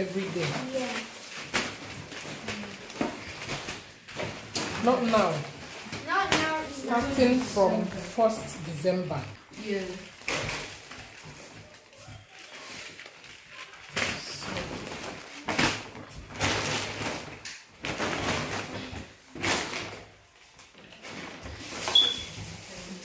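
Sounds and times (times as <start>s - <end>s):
plastic bag rustling: 0.0s - 23.0s.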